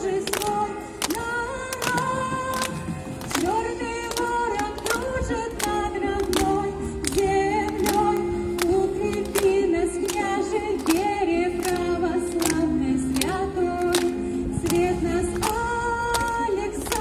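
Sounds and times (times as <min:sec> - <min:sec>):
woman singing through loudspeaker: 0:00.0 - 0:17.0.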